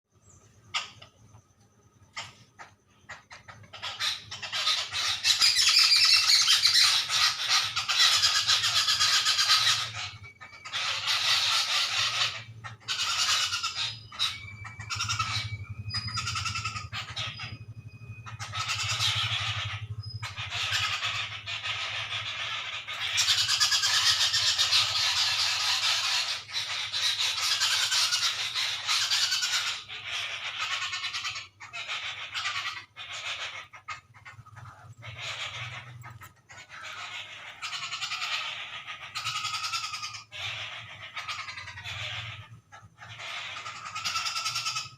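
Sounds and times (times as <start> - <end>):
birds chattering and squawking: 0.1 - 44.9.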